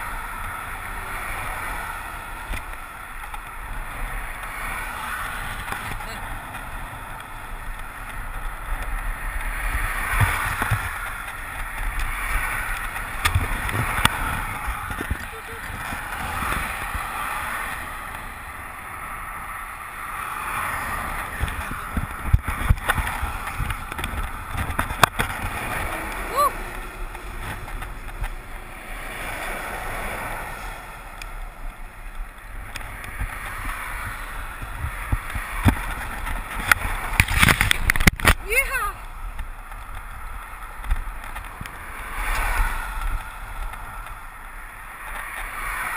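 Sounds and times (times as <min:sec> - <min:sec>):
road and tyre rumble: 0:00.0 - 0:45.9
wind buffeting microphone: 0:00.0 - 0:45.9.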